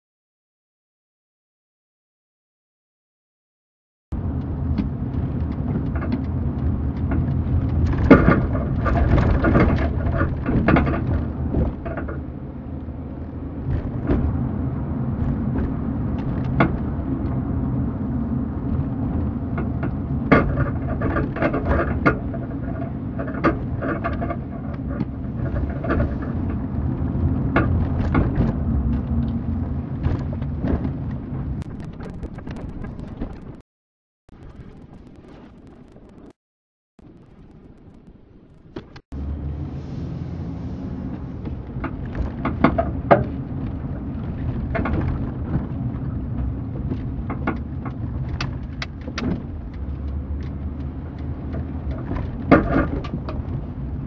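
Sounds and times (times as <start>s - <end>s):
road and engine rumble: 4.1s - 33.6s, 37.0s - 54.0s.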